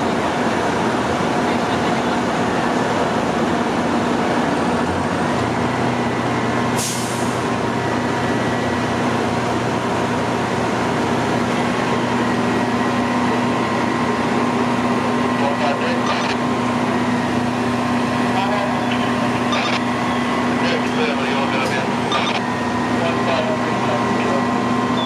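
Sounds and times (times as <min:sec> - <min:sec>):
diesel engines running: 0:00.0 - 0:25.0.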